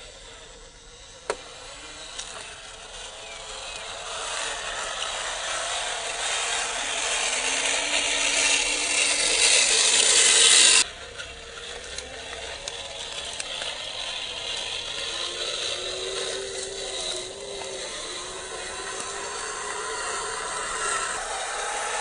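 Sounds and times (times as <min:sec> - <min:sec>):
toy car motor whirring: 0:00.0 - 0:22.0.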